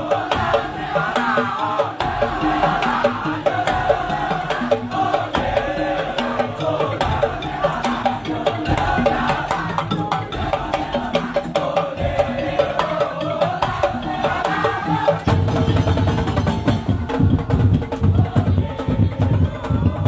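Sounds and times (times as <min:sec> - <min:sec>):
drums: 0:00.0 - 0:20.0.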